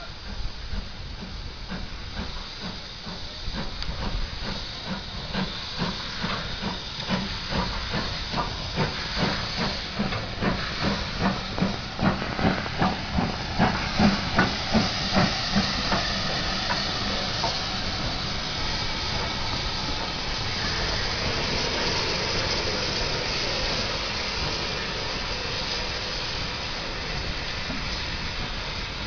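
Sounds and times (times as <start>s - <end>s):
locomotive chuffing beat: 0.0s - 29.0s
steam locomotive hissing steam: 0.0s - 29.0s.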